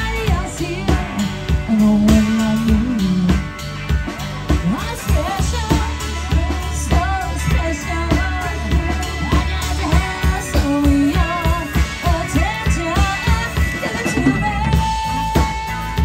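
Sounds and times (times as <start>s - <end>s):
person singing: 0.0s - 3.8s, 4.5s - 15.7s
live band music: 0.0s - 16.0s.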